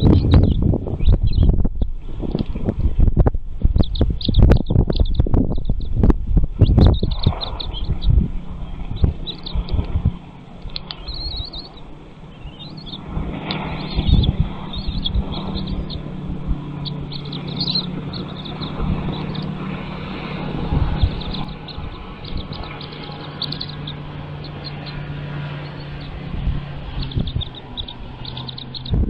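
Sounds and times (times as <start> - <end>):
low steady hum: 0.0 - 29.0
small birds chirping: 0.0 - 29.0.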